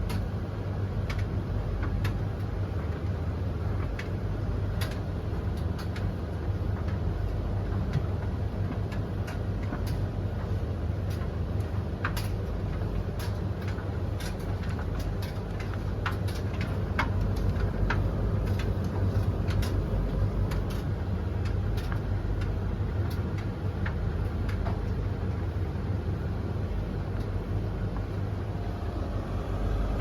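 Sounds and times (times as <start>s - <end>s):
light clicks from tumbling loads: 0.0s - 30.0s
tumble dryer drum rumble: 0.0s - 30.0s.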